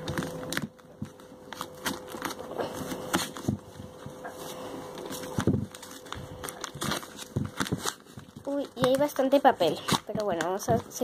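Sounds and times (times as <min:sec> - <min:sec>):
paper wrapper tearing: 0:00.0 - 0:03.5, 0:04.9 - 0:11.0
faint steady hum: 0:00.0 - 0:11.0.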